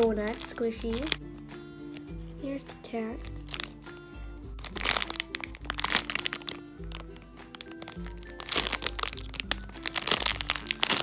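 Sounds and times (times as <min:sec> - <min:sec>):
plastic bag crinkling: 0:00.0 - 0:01.2, 0:03.2 - 0:11.0
background music: 0:00.0 - 0:11.0.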